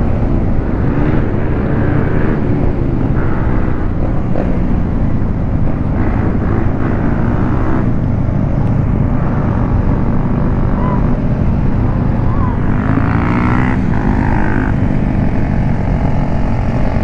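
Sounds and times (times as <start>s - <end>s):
motorcycle engine running: 0.0s - 17.0s
wind rushing on microphone: 0.0s - 17.0s.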